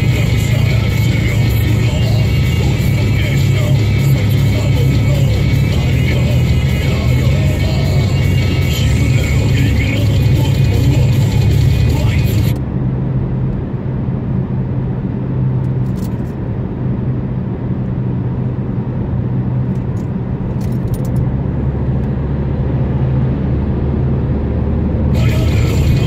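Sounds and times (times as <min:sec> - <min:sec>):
car engine and road hum: 0:00.0 - 0:26.0.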